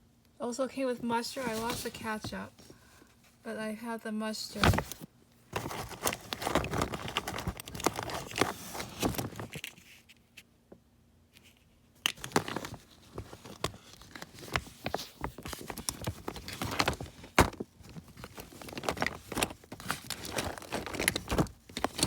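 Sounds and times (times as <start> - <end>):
plastic toys rustling and clicking: 1.1 - 3.1, 4.7 - 10.4, 11.4 - 22.0.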